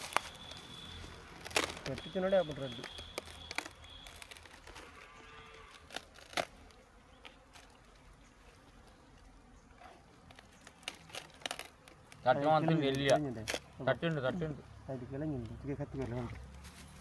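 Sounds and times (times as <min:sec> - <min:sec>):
dry leaf crackling: 0:00.0 - 0:14.5, 0:15.2 - 0:17.0
bees buzzing: 0:00.0 - 0:15.2.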